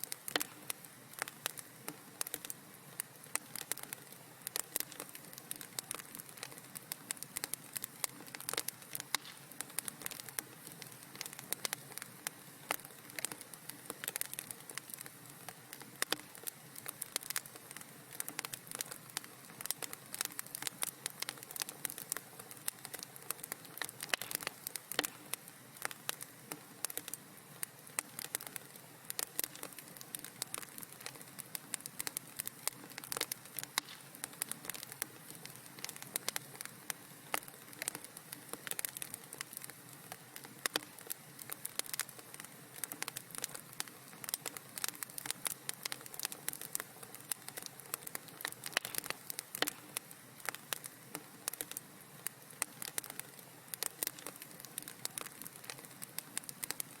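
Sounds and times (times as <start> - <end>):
wood fire crackling and hissing: 0.0 - 57.0.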